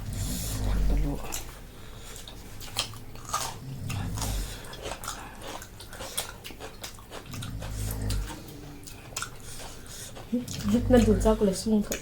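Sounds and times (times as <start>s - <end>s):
chewing and lip smacks: 1.2s - 11.2s.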